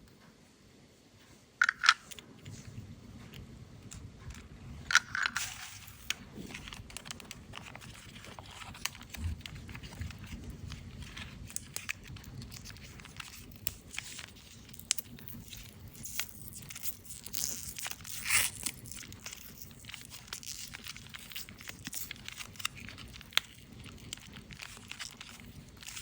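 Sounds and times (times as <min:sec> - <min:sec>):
candy wrapper crinkling: 0:01.6 - 0:02.7, 0:03.9 - 0:26.0.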